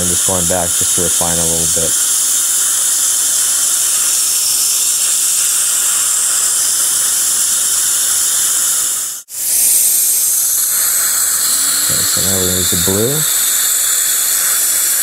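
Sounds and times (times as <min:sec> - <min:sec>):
dental handpiece hissing: 0:00.0 - 0:15.0.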